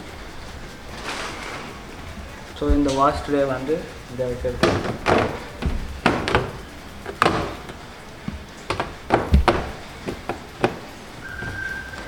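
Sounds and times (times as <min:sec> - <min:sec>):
plastic parts knocking and clattering: 0:00.0 - 0:12.0.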